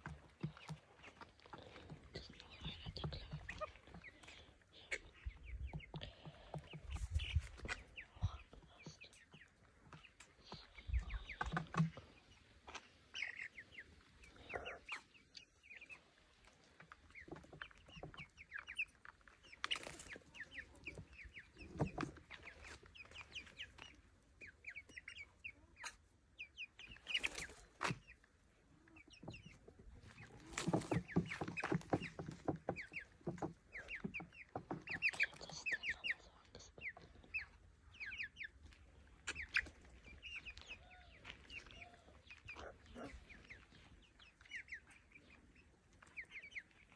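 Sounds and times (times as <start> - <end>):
chicken clucking: 0.0 - 46.9.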